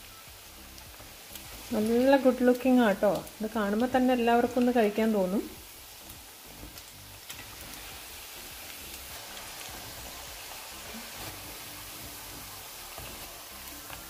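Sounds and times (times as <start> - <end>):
beef deep-frying in oil: 0.0 - 14.0.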